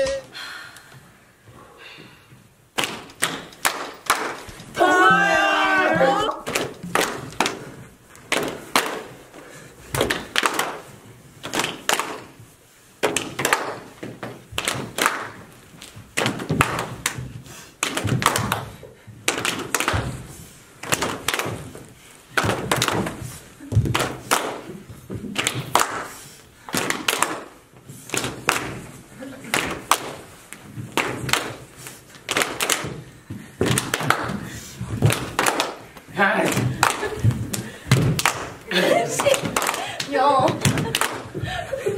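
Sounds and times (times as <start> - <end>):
hands clapping: 2.7 - 41.9.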